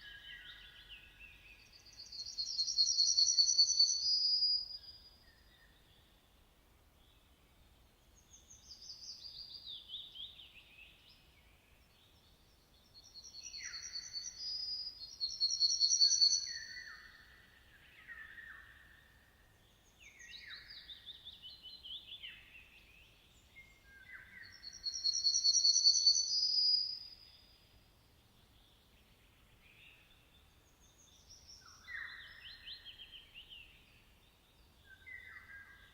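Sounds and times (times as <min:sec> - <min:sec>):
songbirds singing: 0:00.0 - 0:35.9.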